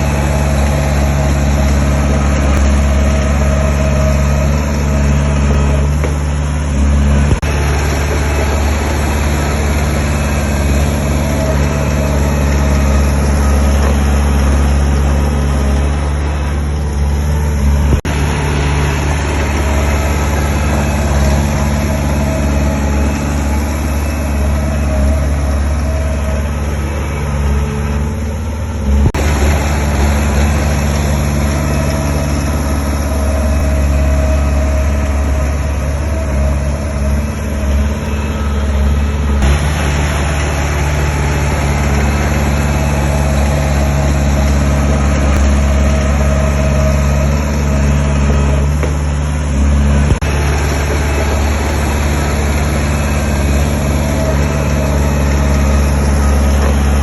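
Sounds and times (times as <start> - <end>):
diesel engine of earthmoving machinery: 0.0 - 57.0.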